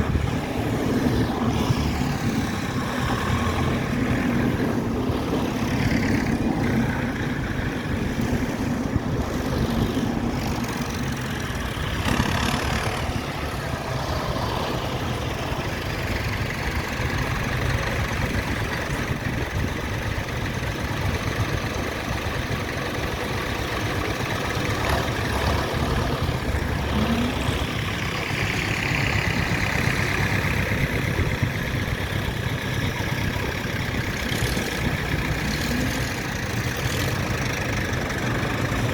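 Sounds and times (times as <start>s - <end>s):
tractor engines running: 0.0s - 38.9s.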